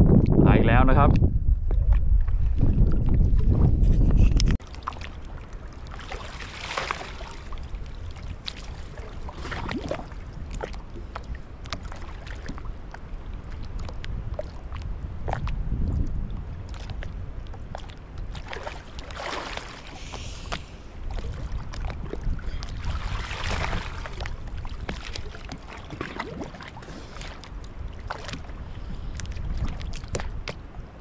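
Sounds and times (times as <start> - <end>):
wind rumbling on microphone: 0.0 - 31.0
water splashing around boat: 4.6 - 31.0.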